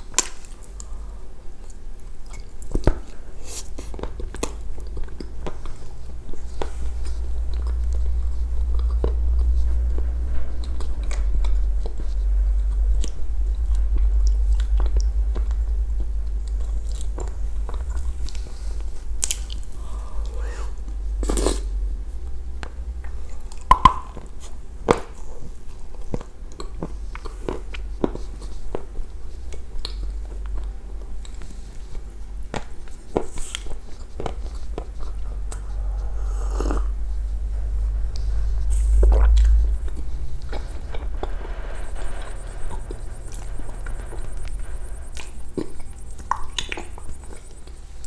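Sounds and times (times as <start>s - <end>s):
chewing and crunching: 0.0s - 48.0s
steady low hum: 0.0s - 48.0s.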